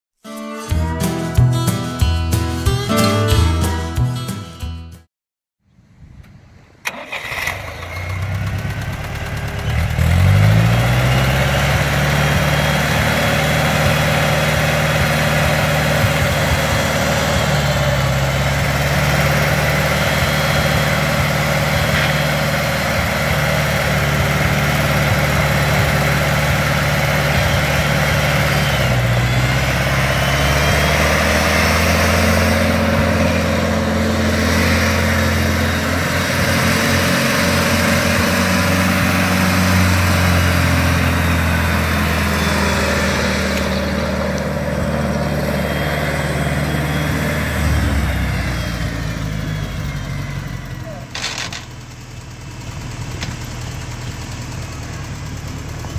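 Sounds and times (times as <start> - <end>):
tractor engine running: 6.1 - 55.9.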